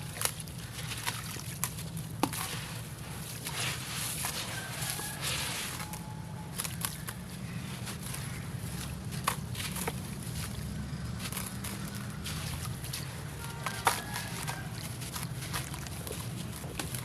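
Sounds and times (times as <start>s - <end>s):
concrete crunching in water: 0.0s - 17.0s.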